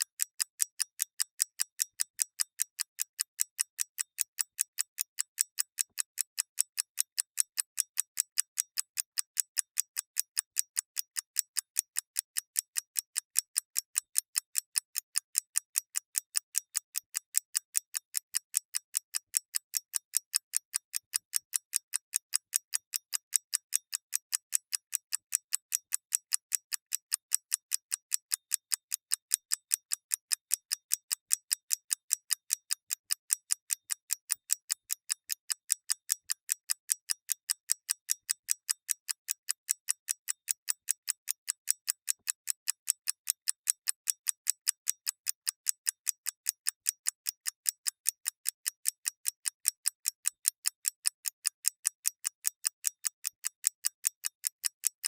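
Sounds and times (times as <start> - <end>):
mechanical clock ticking: 0.0 - 55.0.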